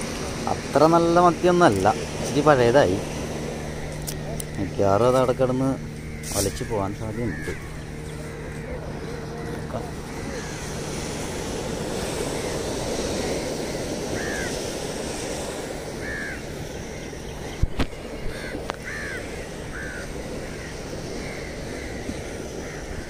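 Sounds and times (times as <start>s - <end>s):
surf washing: 0.0s - 23.0s
crows cawing: 3.7s - 23.0s.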